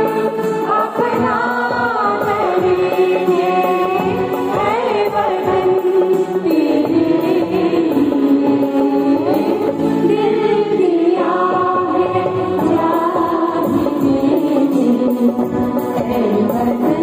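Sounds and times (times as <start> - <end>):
mixed choir singing: 0.0 - 17.0.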